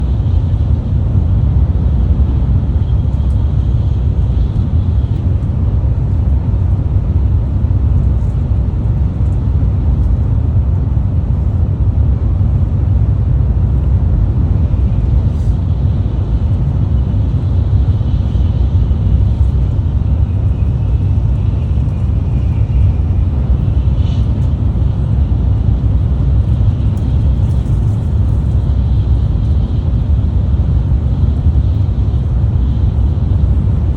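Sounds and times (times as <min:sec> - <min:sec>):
train running low rumble: 0:00.0 - 0:33.9.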